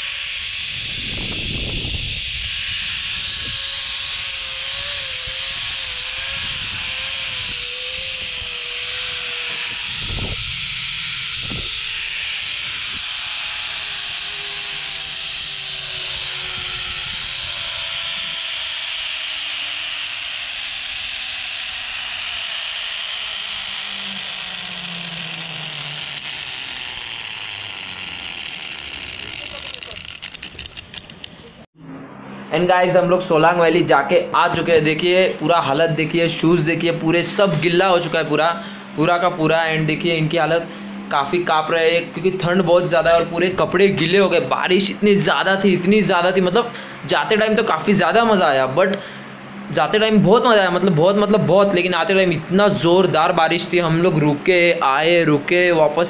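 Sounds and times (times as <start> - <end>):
pulley wheels whining on cable: 0.0 - 31.7, 34.4 - 56.0.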